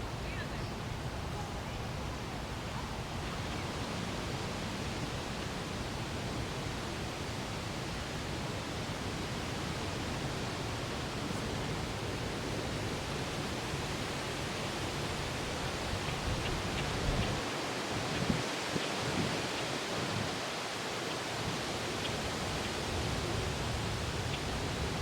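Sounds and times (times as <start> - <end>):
wind blowing across microphone: 0.0 - 25.0.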